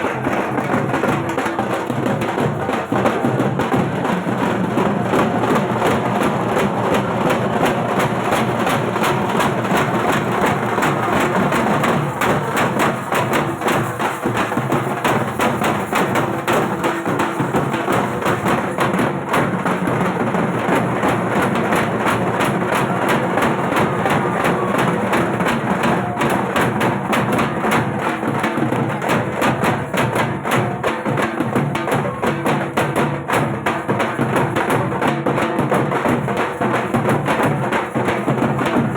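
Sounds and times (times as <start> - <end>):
barrel drum beaten with sticks: 0.0 - 38.9.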